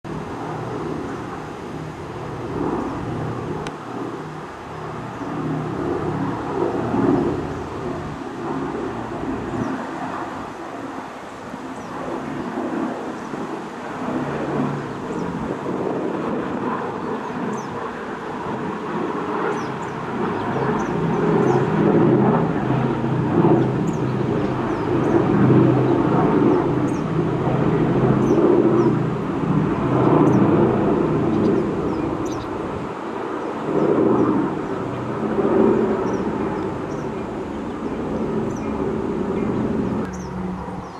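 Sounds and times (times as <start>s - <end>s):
propeller plane engines droning: 0.0s - 40.9s.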